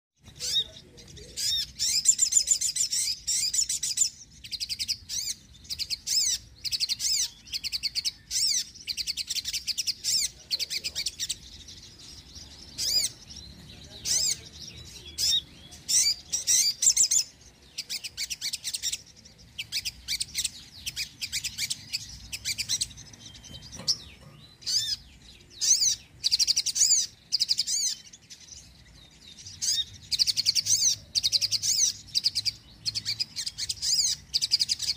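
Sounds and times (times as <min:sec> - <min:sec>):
sunbird twittering trills: 0:00.2 - 0:34.9.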